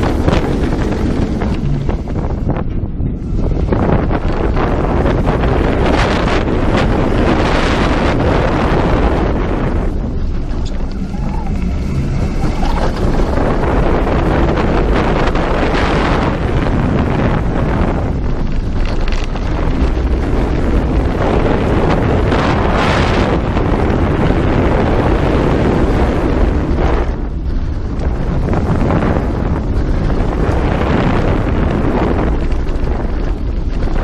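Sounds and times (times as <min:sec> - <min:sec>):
roller coaster rumbling on track: 0:00.0 - 0:34.0
wind over microphone: 0:00.0 - 0:34.0.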